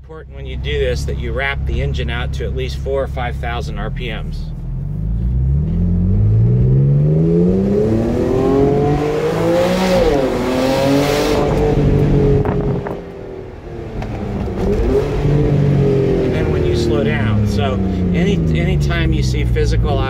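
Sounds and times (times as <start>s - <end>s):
gear changes: 0.4s - 20.0s
sports car engine revving: 0.4s - 20.0s.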